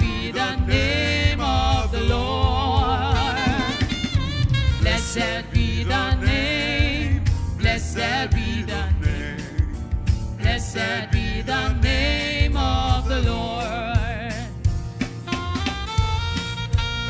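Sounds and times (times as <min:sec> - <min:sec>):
solo voice singing with vibrato: 0:00.0 - 0:04.0, 0:04.8 - 0:14.5
band with bass and drums: 0:00.0 - 0:17.0.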